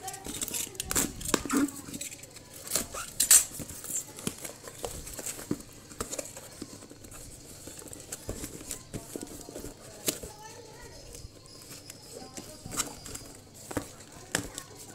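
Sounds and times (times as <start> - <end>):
cardboard and plastic rustling: 0.0 - 14.9.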